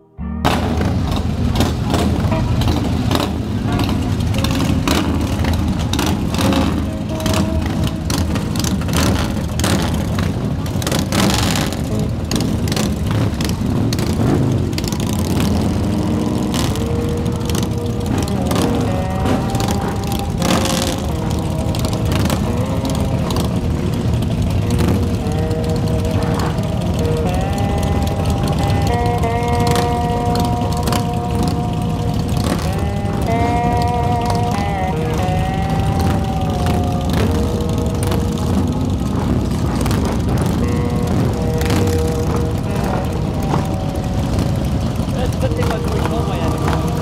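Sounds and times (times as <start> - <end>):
engine revving: 0.0 - 47.0
music with slow held notes: 0.0 - 47.0
motorcycles idling: 0.2 - 47.0.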